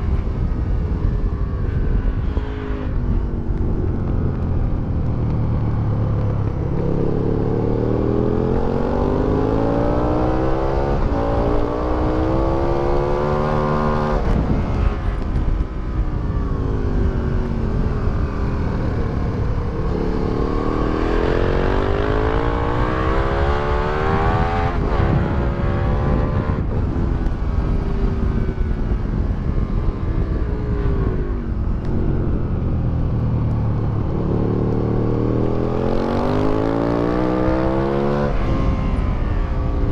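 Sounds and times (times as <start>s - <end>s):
motorcycle engine accelerating: 0.0s - 39.9s
wind rushing: 0.0s - 39.9s.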